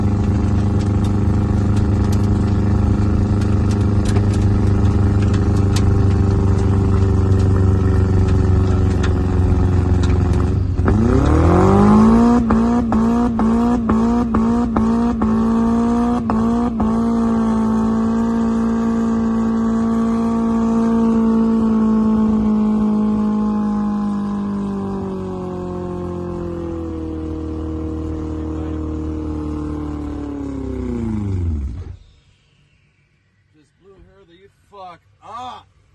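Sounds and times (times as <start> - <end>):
car engine with rod knock revving: 0.0 - 32.0.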